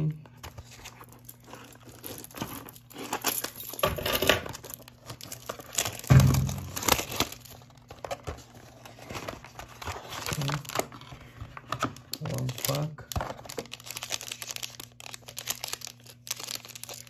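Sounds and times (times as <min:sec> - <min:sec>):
cardboard rustling: 0:00.4 - 0:17.0
shrink wrap crinkling and tearing: 0:00.4 - 0:17.0.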